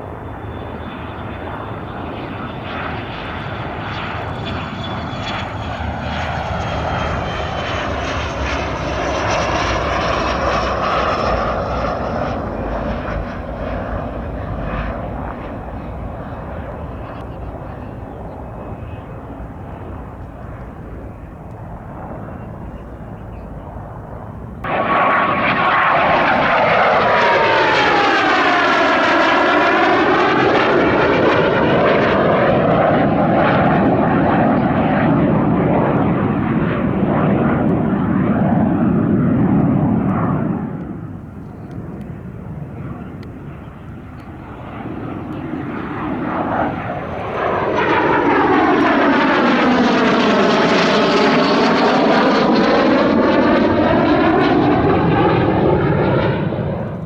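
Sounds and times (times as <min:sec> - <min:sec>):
aircraft engine flying past: 0:00.0 - 0:57.0.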